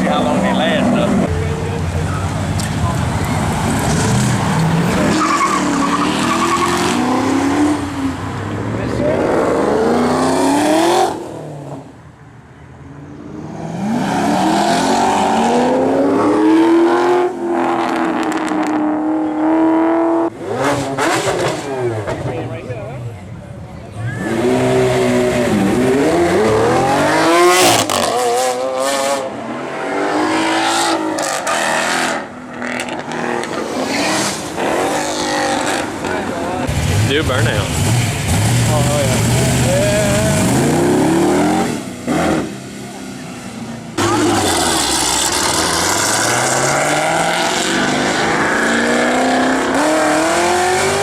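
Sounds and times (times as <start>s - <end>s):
car engines revving hard: 0.0s - 12.2s, 12.8s - 51.0s.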